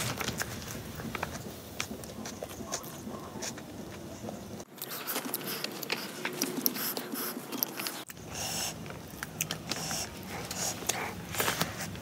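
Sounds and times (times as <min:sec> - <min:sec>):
person chewing food: 0:00.3 - 0:12.0.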